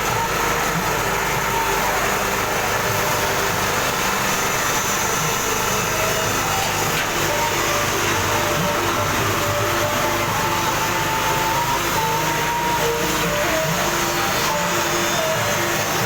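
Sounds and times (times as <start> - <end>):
rotary dryer running: 0.0 - 16.0.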